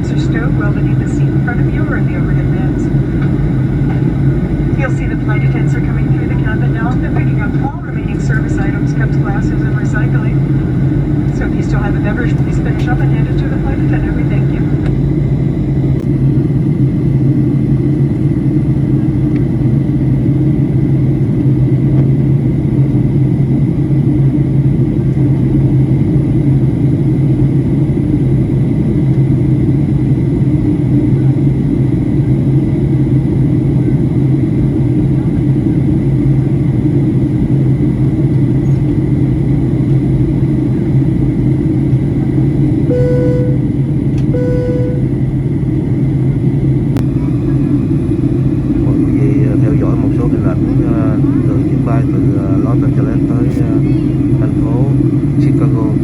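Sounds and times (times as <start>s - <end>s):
airliner cabin noise: 0.0s - 56.0s.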